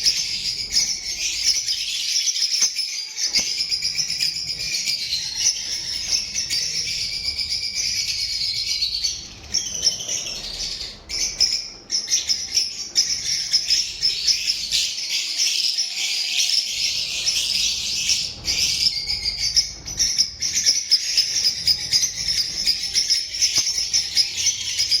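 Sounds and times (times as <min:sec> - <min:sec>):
flock of birds chattering: 0:00.0 - 0:25.0.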